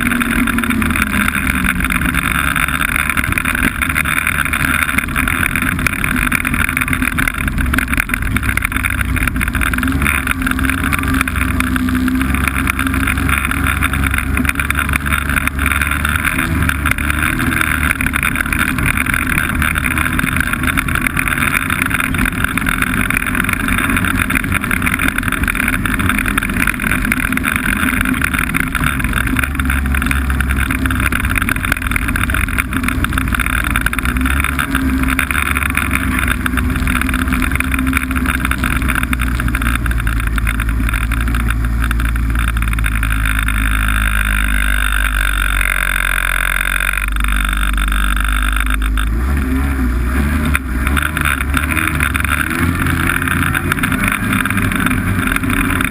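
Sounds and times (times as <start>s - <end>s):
snowmobile engine running: 0.0s - 55.9s.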